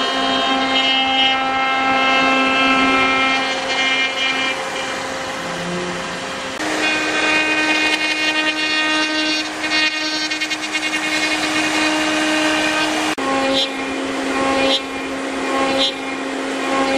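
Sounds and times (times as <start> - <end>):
hiss of bit cutting wood: 0.0 - 16.9
router spindle whining: 0.0 - 16.9.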